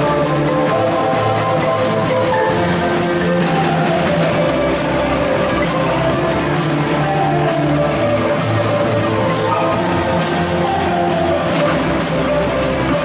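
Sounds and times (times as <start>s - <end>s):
drum kit beat with cymbals: 0.0s - 13.0s
marimba ensemble playing: 0.0s - 13.0s.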